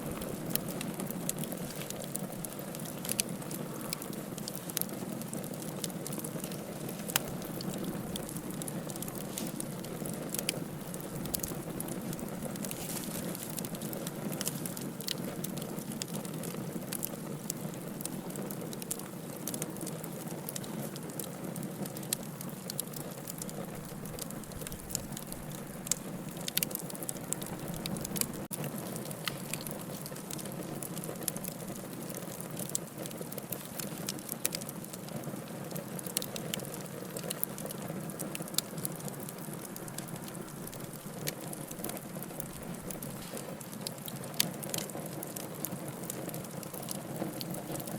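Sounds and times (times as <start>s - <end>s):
logs burning in a fireplace: 0.0s - 47.9s.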